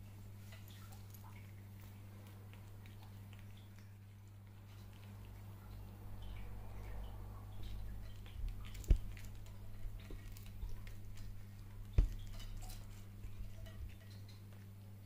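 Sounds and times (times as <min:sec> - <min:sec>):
steady low hum: 0:00.0 - 0:15.0
cat chewing crunchy food: 0:00.4 - 0:15.0.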